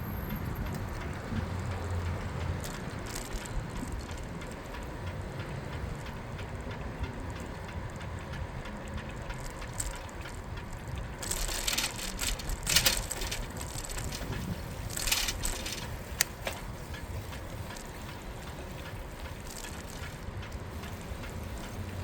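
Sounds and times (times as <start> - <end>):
bicycle rattling and ticking: 0.0 - 22.0
bicycle tyre and road rumble: 0.0 - 22.0.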